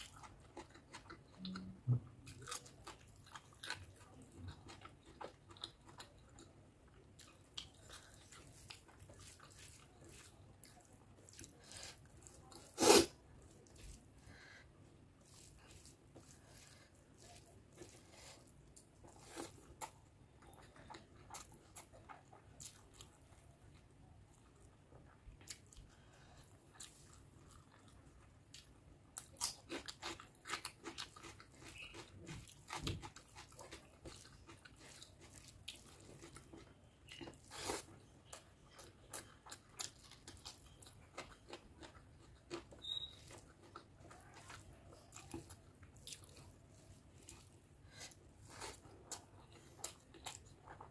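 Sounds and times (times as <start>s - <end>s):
wet chewing and lip-smacking: 0.0s - 12.8s, 15.2s - 50.9s.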